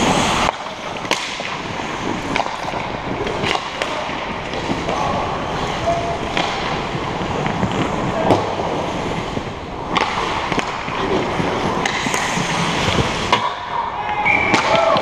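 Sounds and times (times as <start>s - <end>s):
hockey sticks and puck clacking: 0.0s - 15.0s
skates scraping on ice: 0.0s - 15.0s.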